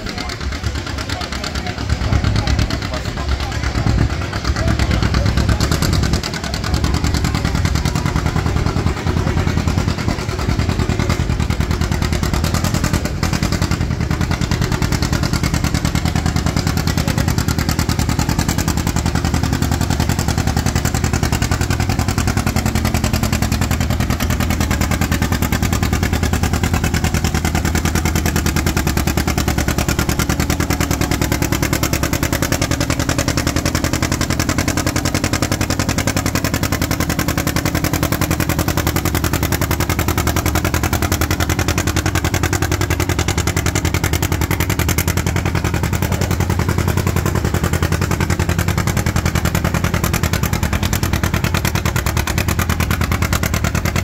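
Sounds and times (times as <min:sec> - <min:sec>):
tractor engine popping under load: 0:00.0 - 0:54.0.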